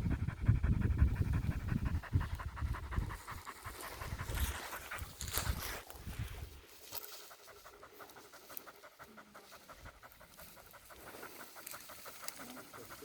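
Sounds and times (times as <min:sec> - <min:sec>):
dog panting rapidly: 0:00.0 - 0:05.9, 0:07.0 - 0:13.0.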